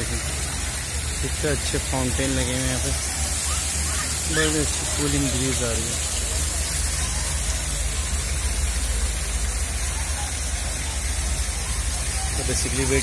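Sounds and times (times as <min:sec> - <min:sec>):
water cascading into basin: 0:00.0 - 0:13.0.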